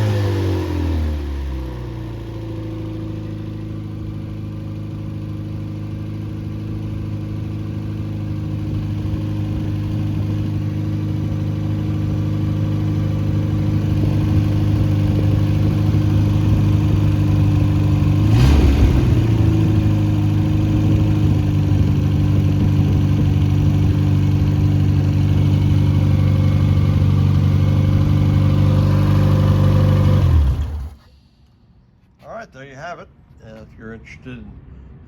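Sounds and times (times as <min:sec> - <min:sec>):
loud car engine idling: 0:00.0 - 0:31.2.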